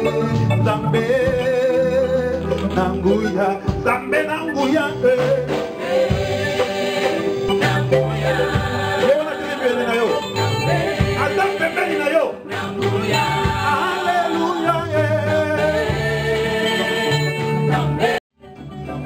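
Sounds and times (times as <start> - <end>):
voices singing together: 0.0 - 3.1, 4.8 - 18.2
keyboard bass and drums: 0.0 - 19.0.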